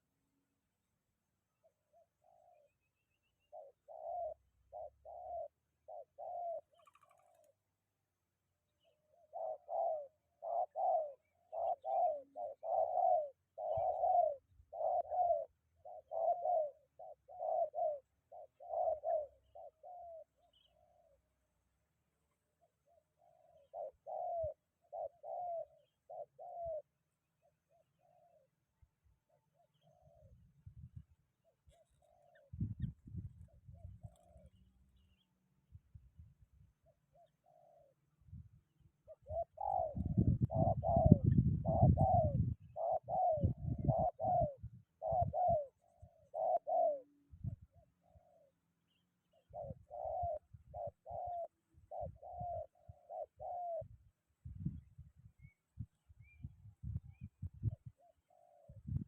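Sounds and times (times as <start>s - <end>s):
dove cooing: 1.4s - 2.8s, 3.4s - 8.0s, 8.8s - 35.2s, 36.7s - 59.0s.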